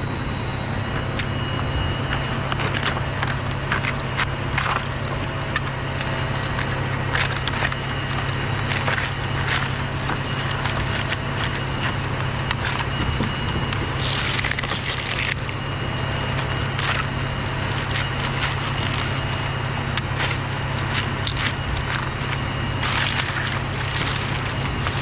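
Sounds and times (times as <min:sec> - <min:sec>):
steady low hum: 0:00.0 - 0:25.0
dry palm fronds crackling: 0:01.0 - 0:25.0.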